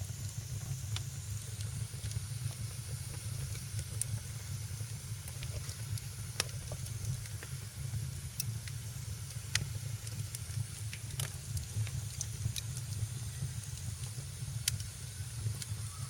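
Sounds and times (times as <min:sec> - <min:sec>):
fire rumble and hiss: 0:00.0 - 0:16.0
sharp crackles and pops: 0:00.0 - 0:16.0.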